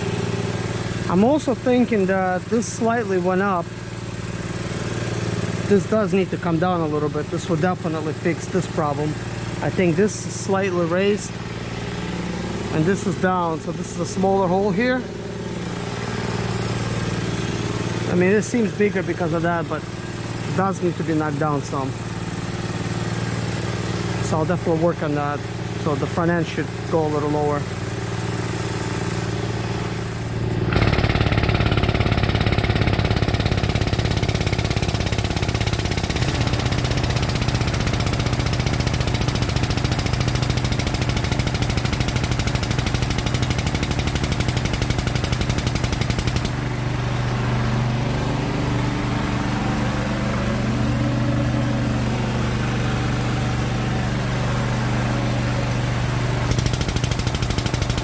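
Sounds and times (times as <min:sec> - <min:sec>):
powered pump mechanical chatter: 0:00.0 - 0:58.0.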